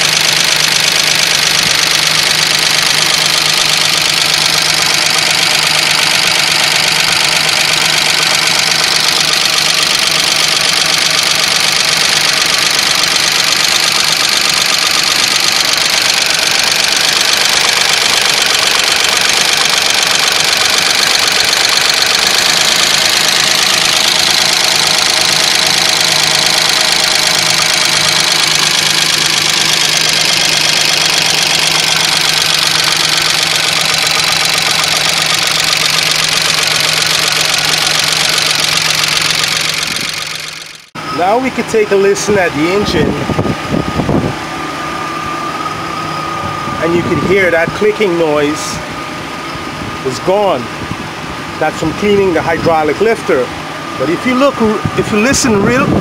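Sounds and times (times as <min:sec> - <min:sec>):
valvetrain mechanical chatter: 0:00.0 - 0:44.3, 0:45.1 - 0:56.0
engine idling: 0:00.0 - 0:56.0.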